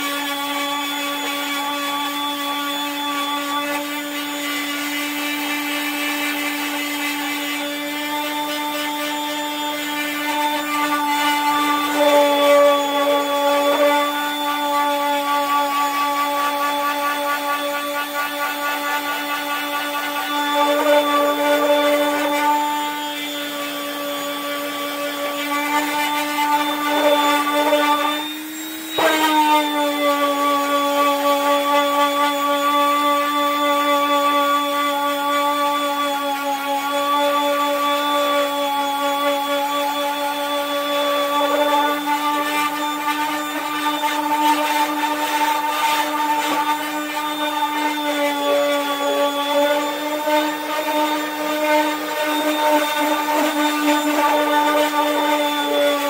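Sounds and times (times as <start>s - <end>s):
orbital sander motor whine: 0.0s - 56.0s
sander pad rasping on paint: 0.0s - 56.0s.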